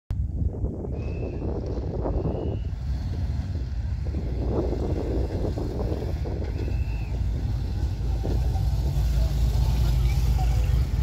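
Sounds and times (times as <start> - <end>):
motorcycle engines rumbling: 0.1 - 11.0.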